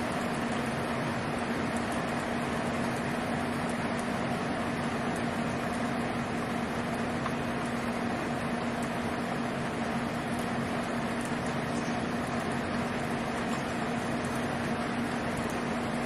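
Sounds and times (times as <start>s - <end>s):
steady low hum with hiss: 0.0s - 16.0s.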